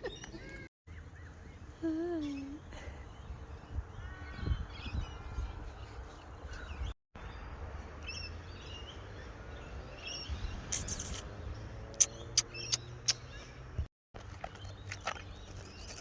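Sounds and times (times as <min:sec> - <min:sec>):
small birds chirping: 0:00.0 - 0:07.0, 0:08.0 - 0:16.0.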